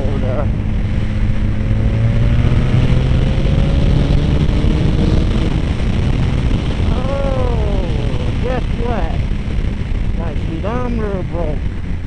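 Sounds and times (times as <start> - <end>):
wind rush on microphone: 0.0 - 12.0.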